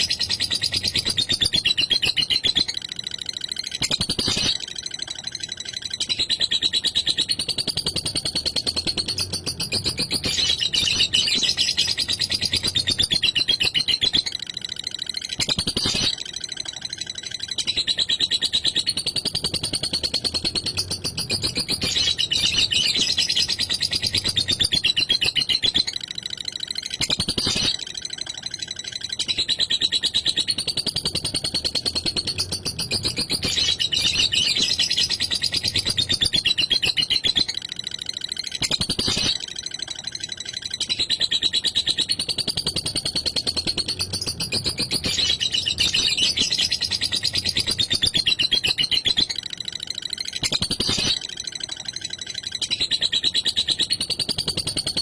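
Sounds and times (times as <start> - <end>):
bird chattering trill: 0.0 - 55.0.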